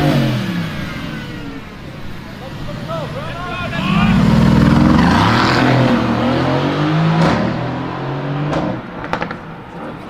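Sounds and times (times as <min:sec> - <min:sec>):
car exhaust at high revs: 0:00.0 - 0:09.4
sharp exhaust cracks: 0:00.0 - 0:10.0.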